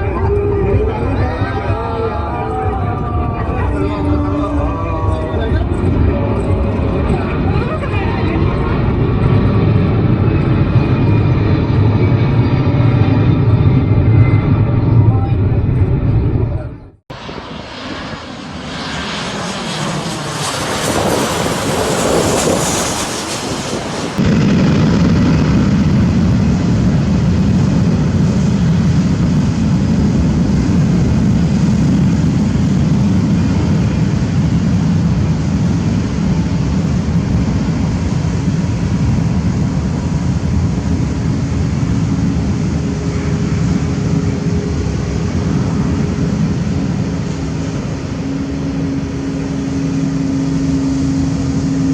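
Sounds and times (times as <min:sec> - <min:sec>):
airplane engines passing overhead: 0:00.0 - 0:51.9
low rumble of aircraft engines: 0:00.0 - 0:51.9.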